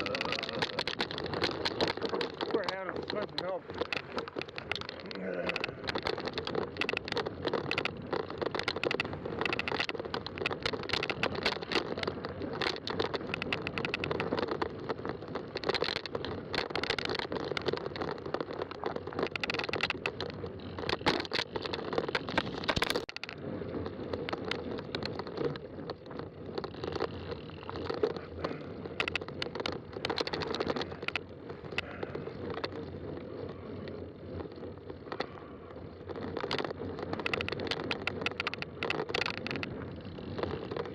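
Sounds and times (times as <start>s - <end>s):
bike clicks and rattles: 0.0s - 40.9s
bike tire rumble and crunching: 0.0s - 40.9s.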